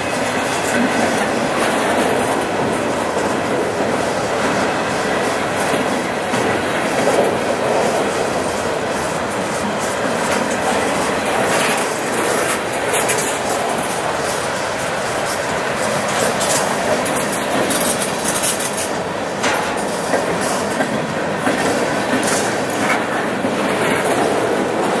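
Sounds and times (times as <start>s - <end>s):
train wheels rumbling on rails: 0.0s - 25.0s
wheels clicking over rail joints: 0.0s - 25.0s.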